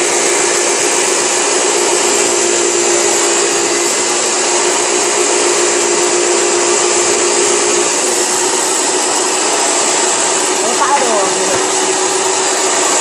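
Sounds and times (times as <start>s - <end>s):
electric motor whooshing hiss: 0.0s - 13.0s.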